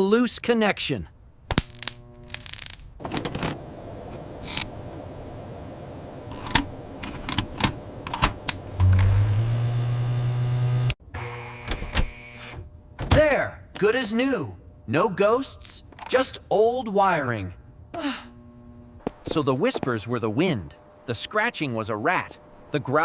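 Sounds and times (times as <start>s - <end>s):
low electrical hum: 1.1s - 23.0s.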